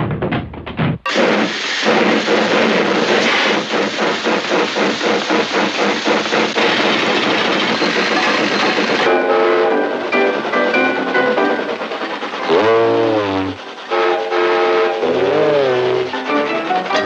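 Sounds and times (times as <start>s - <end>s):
steam locomotive hissing chug: 1.1s - 17.0s.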